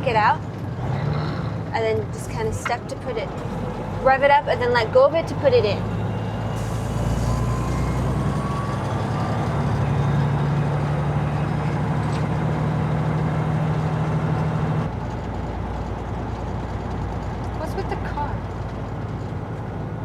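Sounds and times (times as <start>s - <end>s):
truck diesel engine pulling: 0.0s - 20.0s.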